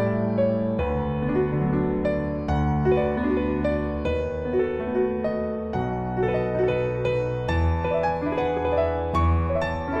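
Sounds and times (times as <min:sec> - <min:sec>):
gentle piano tune: 0:00.0 - 0:10.0.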